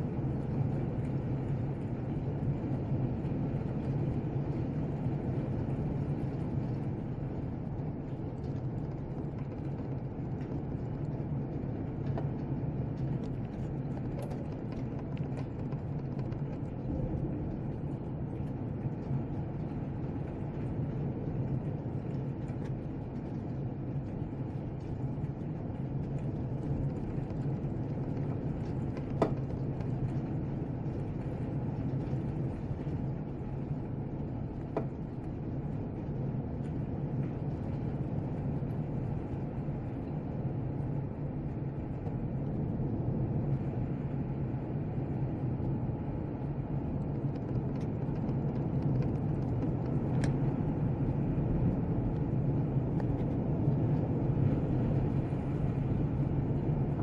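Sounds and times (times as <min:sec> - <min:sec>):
heavy rain pouring: 0:00.0 - 0:57.0
low rumble: 0:00.0 - 0:57.0.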